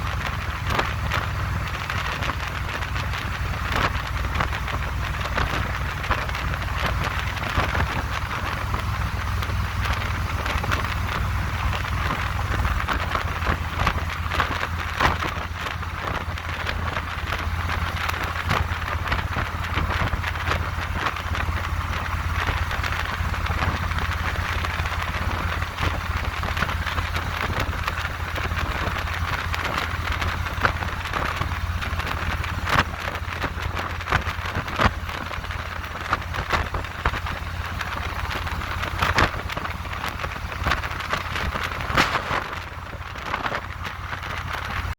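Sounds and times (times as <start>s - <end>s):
motorcycle engine drone: 0.0s - 44.9s
wind buffeting microphone: 0.0s - 44.9s.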